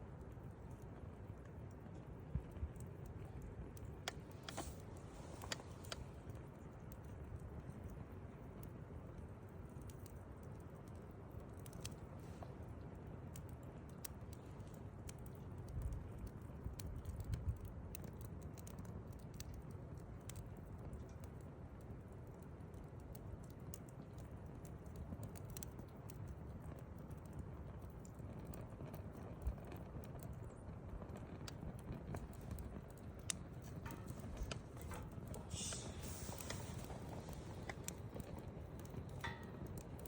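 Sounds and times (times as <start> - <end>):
campfire crackling and popping: 0.0 - 40.0
fire low rumble: 0.0 - 40.0.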